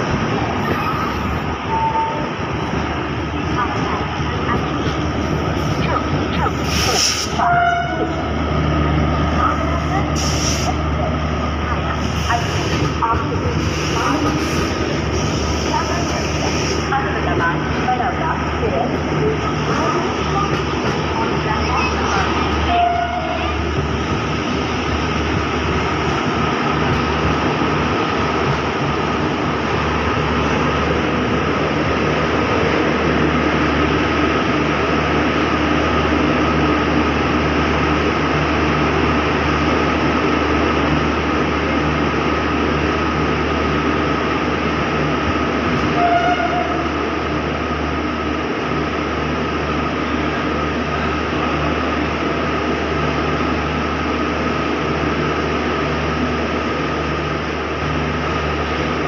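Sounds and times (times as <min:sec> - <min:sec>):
train coach rumbling: 0:00.0 - 0:59.0.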